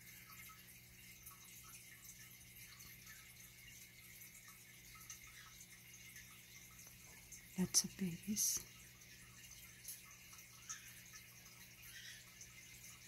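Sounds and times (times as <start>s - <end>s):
aquarium bubbling: 0.0s - 13.0s.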